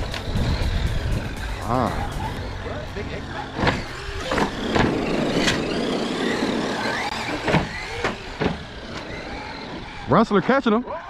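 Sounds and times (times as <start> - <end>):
electric motors whining: 0.0 - 11.0
tyres rumbling on pavement: 0.0 - 11.0.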